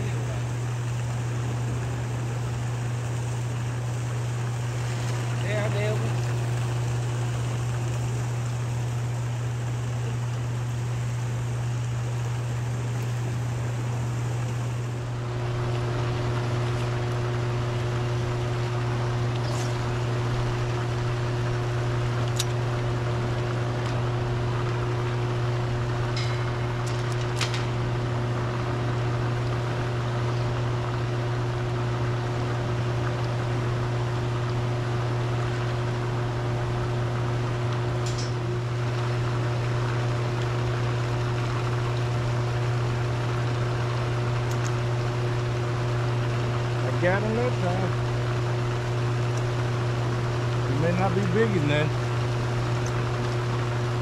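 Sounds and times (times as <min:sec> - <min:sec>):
churning water rushing: 0:00.0 - 0:54.0
constant low hum: 0:00.0 - 0:54.0.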